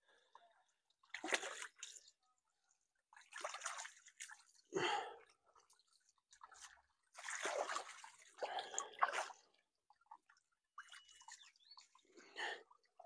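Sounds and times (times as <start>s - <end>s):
water splashing and dripping: 0.9s - 13.0s.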